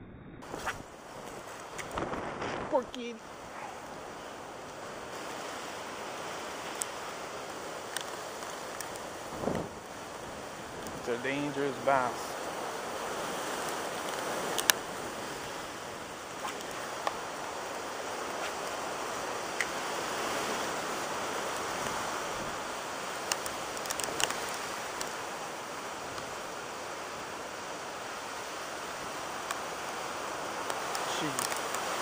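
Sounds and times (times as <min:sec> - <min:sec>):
wind and heavy rain: 0:00.0 - 0:32.0.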